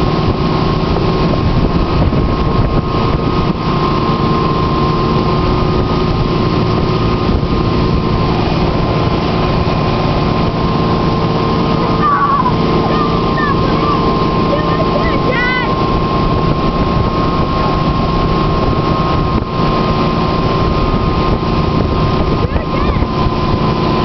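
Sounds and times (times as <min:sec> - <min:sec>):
motorboat engine running: 0:00.0 - 0:24.0
wind noise on microphone: 0:00.0 - 0:24.0.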